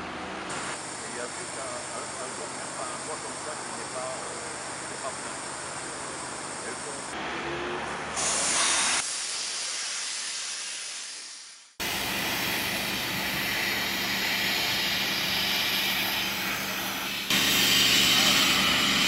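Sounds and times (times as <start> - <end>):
steady hissing: 0.5 - 7.2, 8.2 - 18.6.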